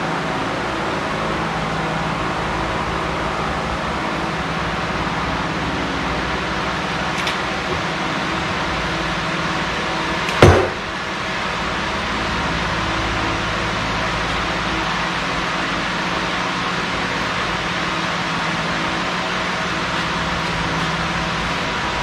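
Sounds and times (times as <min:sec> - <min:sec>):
fan-like hum: 0:00.0 - 0:22.0.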